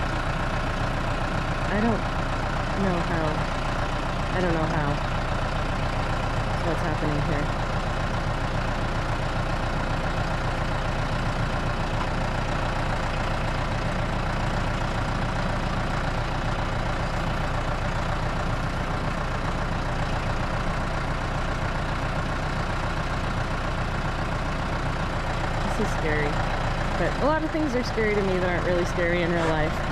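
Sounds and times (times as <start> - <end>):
heavy engine idling: 0.0 - 29.9.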